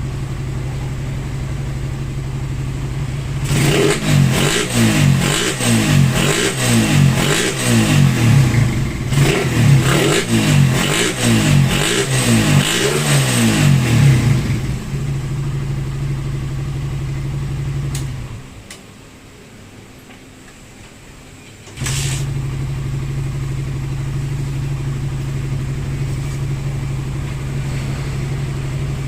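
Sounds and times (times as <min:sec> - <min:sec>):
motorcycle engine revving and idling: 0:00.0 - 0:18.6, 0:21.8 - 0:29.0.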